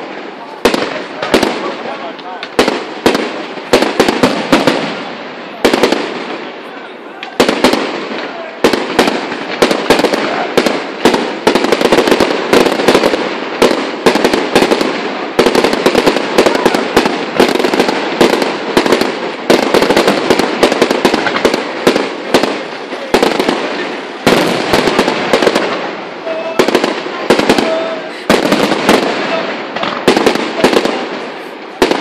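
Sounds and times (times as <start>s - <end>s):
fireworks bangs: 0.0s - 32.0s
fireworks rumble and crackle: 0.0s - 32.0s.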